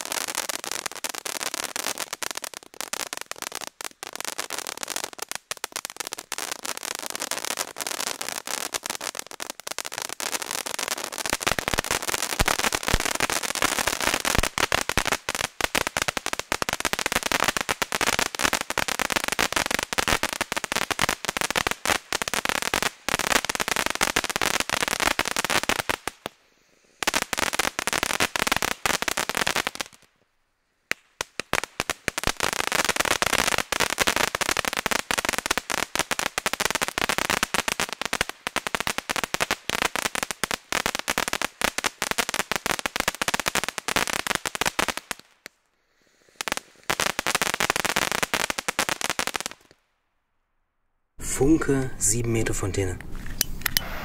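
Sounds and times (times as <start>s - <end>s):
firework fountain crackling: 0.0s - 30.2s, 30.8s - 49.8s, 51.2s - 54.0s.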